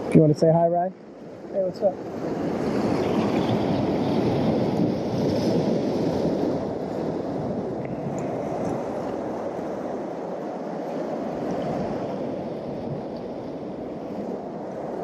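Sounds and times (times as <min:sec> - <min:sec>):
surf washing against rocks: 0:00.0 - 0:15.0.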